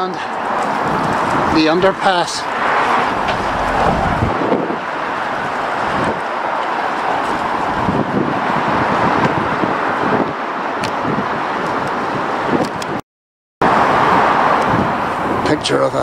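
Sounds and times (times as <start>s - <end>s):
traffic noise: 0.0s - 13.0s, 13.6s - 16.0s
wind buffeting microphone: 0.4s - 13.0s, 13.7s - 15.7s.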